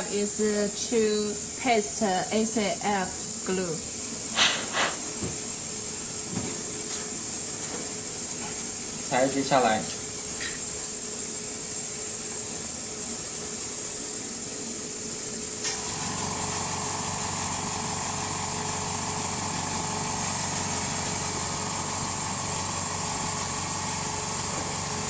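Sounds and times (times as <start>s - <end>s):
small machine humming: 0.0s - 25.0s
steady high hiss: 0.0s - 25.0s.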